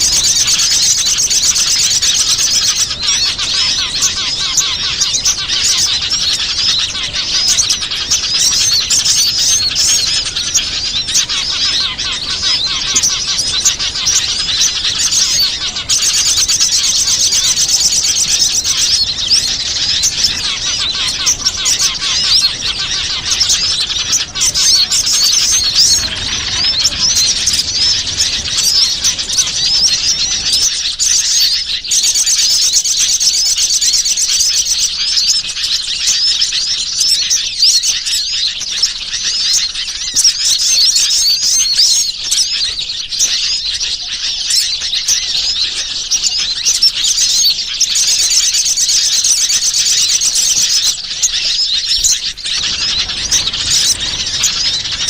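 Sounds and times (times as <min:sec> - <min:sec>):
small birds chirping chorus: 0:00.0 - 0:55.0.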